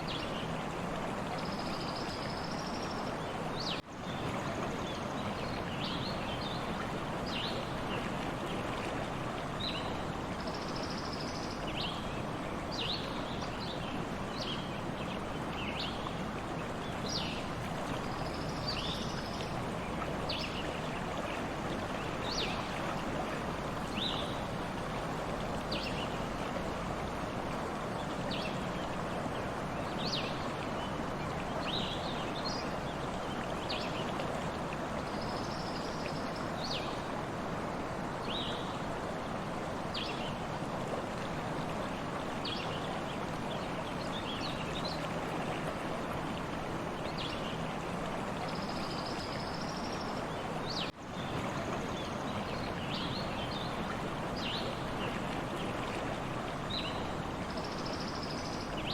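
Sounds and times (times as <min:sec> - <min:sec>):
stream water running: 0:00.0 - 0:58.9.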